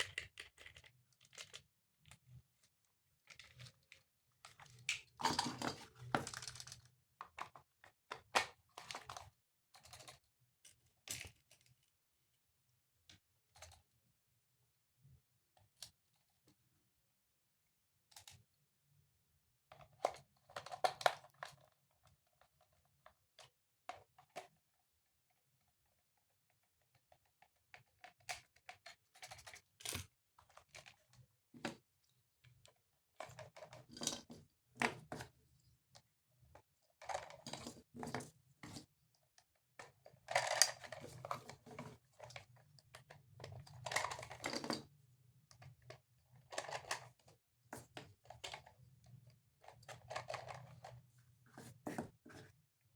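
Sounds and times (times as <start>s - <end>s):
plastic toys and packaging handled: 0.0s - 12.0s, 19.7s - 24.6s, 26.9s - 52.6s.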